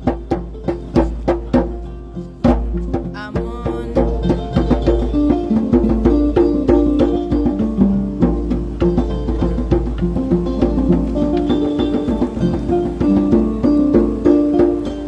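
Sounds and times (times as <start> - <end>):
percussion strikes: 0.0 - 15.0
plucked lute melody: 0.0 - 15.0.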